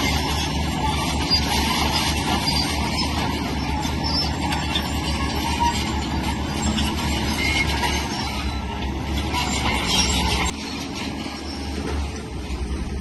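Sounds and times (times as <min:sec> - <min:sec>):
diesel engine under load: 0:00.0 - 0:13.0
steel tracks clattering: 0:00.0 - 0:13.0.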